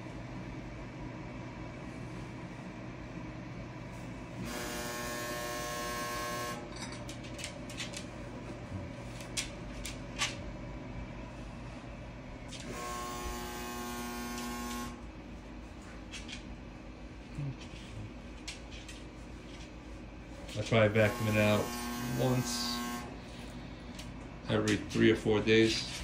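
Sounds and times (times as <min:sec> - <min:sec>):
pellet stove fan hum: 0:00.0 - 0:26.0.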